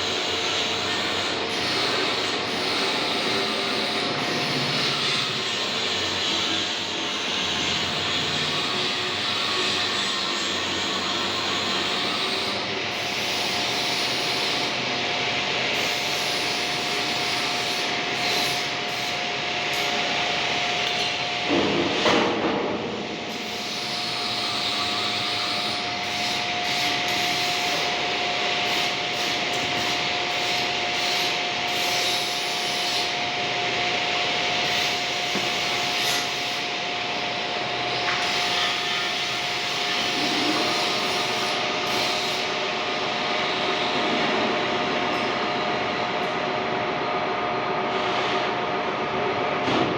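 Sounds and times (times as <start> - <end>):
lathe running with high whine: 0.0 - 21.6, 22.9 - 49.6.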